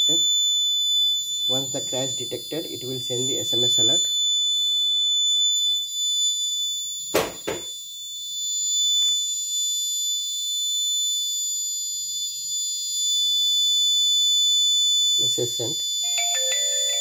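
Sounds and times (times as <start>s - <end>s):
high-pitched alarm buzzer tone: 0.0s - 17.0s.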